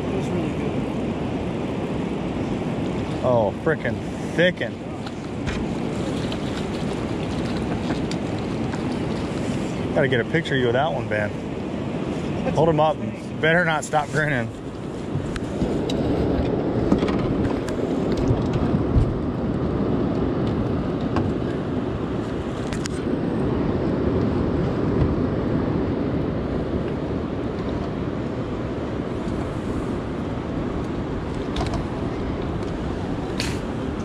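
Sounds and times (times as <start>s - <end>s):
river current rushing: 0.0s - 34.0s
wind: 0.0s - 34.0s.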